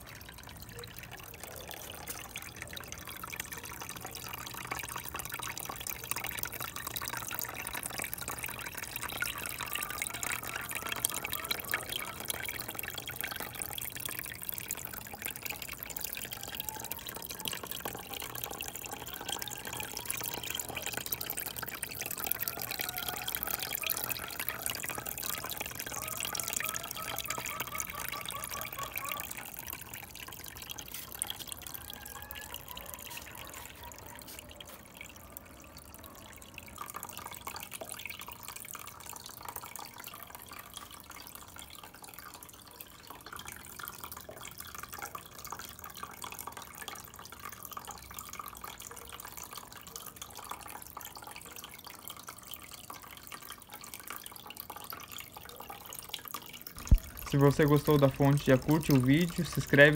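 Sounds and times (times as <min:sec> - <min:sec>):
fountain water trickling: 0:00.0 - 0:59.9.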